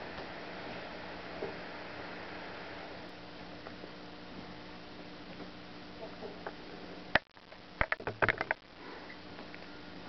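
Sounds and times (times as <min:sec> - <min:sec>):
room tone hiss and hum: 0:00.0 - 0:10.0.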